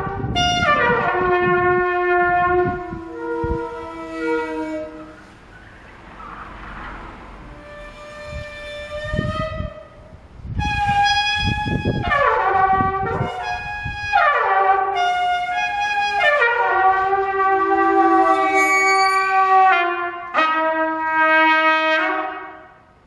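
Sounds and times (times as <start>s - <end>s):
trumpet sliding notes: 0.0s - 22.8s
low gusty noise: 0.0s - 23.0s.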